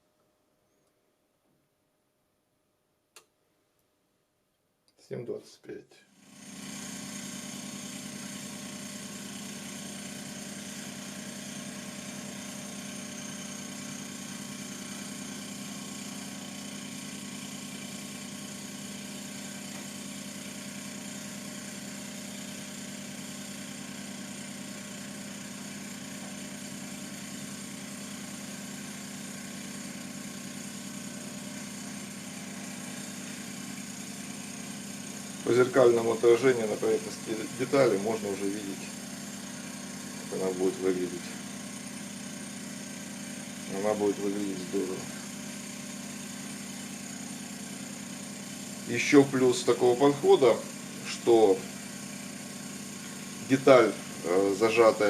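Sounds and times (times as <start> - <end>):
milling machine humming: 6.2 - 55.0.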